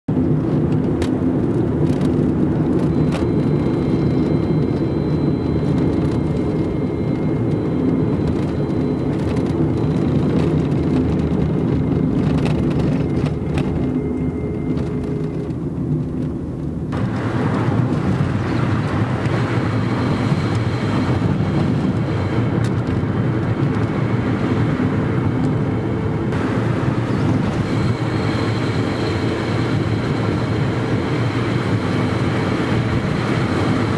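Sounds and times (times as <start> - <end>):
car engine running: 0.1 - 33.9
faint high whining: 2.4 - 33.9.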